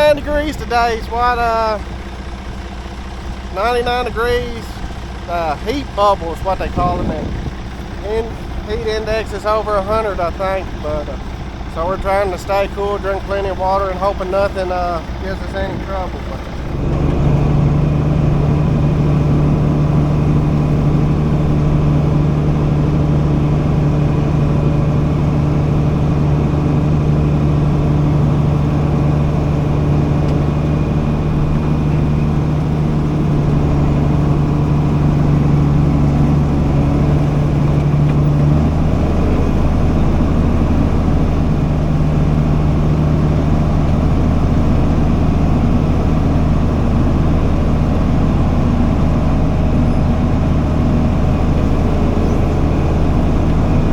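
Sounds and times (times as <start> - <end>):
truck engine running: 0.0 - 53.9.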